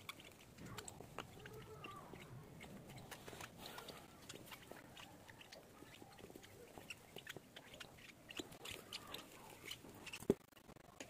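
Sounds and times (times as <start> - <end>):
bird chick gulping food: 0.0 - 11.0.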